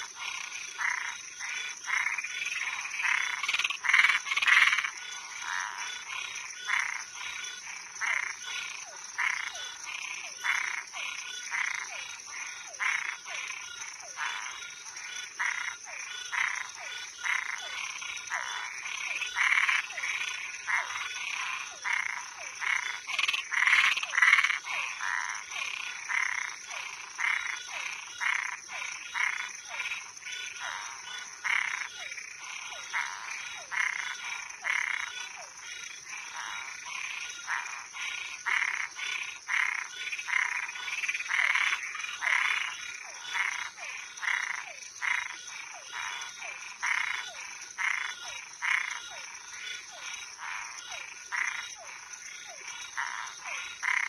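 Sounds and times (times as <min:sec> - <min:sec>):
crickets droning: 0:00.0 - 0:54.0
frogs calling: 0:00.0 - 0:54.0.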